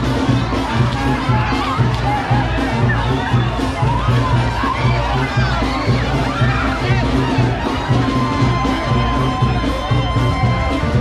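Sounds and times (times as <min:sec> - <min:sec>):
loud music with repeating bass: 0:00.0 - 0:11.0.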